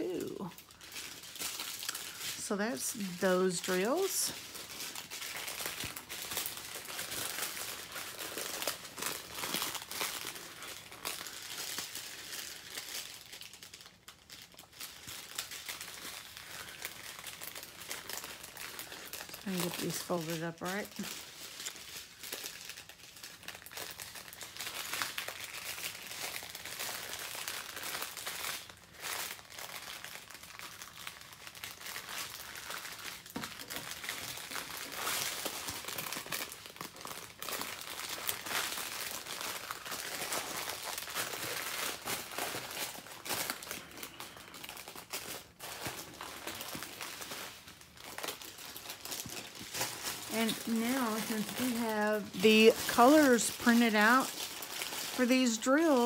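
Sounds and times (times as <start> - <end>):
plastic packets crinkling: 0.0 - 56.0.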